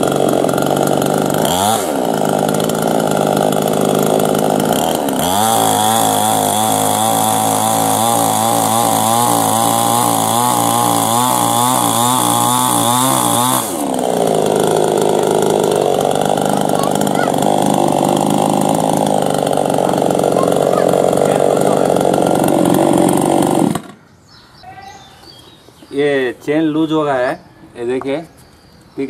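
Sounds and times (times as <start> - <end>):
chainsaw cutting log: 0.0 - 24.0
chainsaw idling and revving: 0.0 - 24.0.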